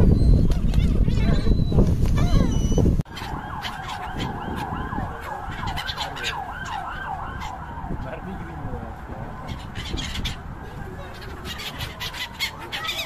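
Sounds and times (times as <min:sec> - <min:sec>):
gulls calling: 0:00.0 - 0:07.9, 0:09.0 - 0:13.0.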